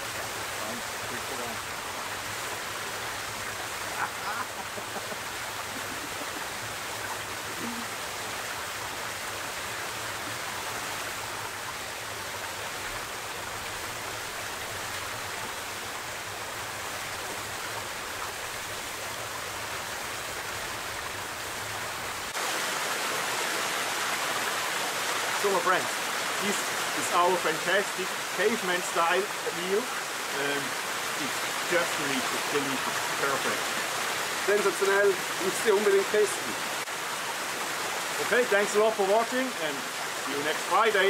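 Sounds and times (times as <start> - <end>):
creek rushing over stones: 0.0 - 41.0.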